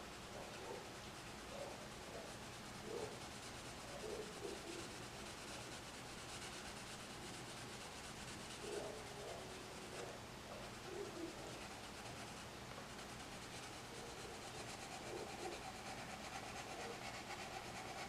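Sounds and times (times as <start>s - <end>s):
pencil scratching on paper: 0.5s - 18.0s.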